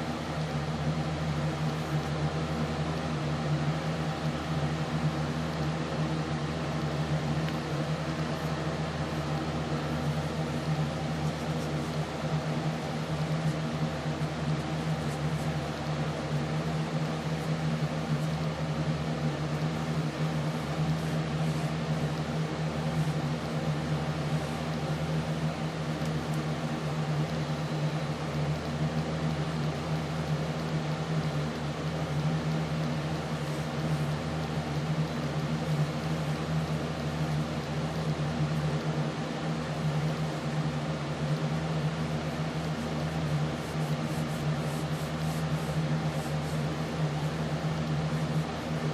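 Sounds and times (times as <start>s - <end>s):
steady machine hum: 0.0s - 48.9s.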